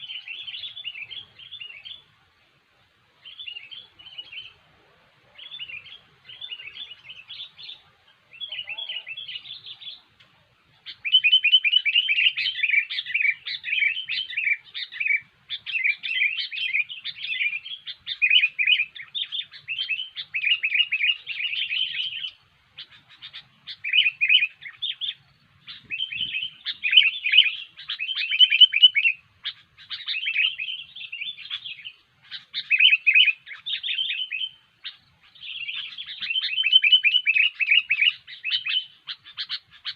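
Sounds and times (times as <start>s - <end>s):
bird singing chattering phrases: 5.3s - 39.9s.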